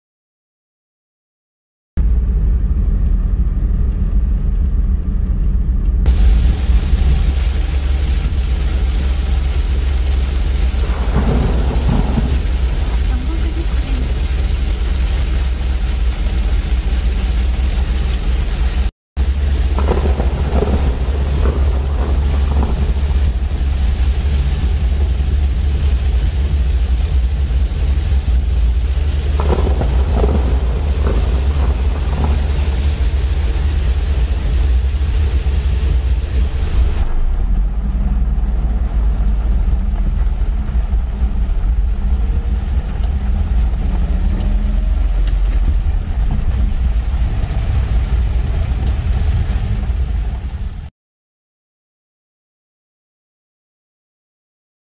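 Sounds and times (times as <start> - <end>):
engine and road rumble: 2.0 - 50.9
rain and wet tyres hissing: 6.0 - 50.9.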